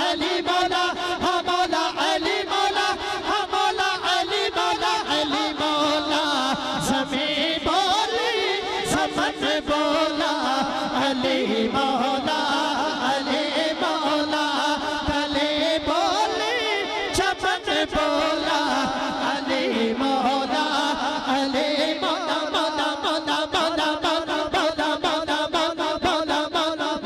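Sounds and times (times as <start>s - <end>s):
man singing through a microphone: 0.0s - 27.0s.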